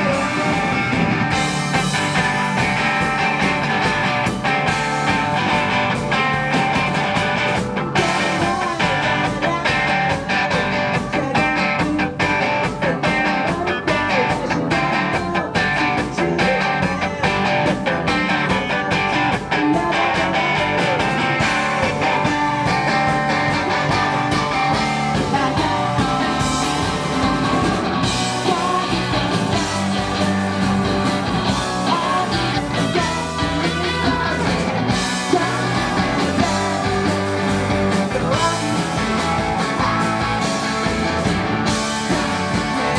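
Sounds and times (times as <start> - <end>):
man singing: 0.0 - 3.9, 7.9 - 41.0, 41.6 - 42.9
live rock band playing: 0.0 - 42.9.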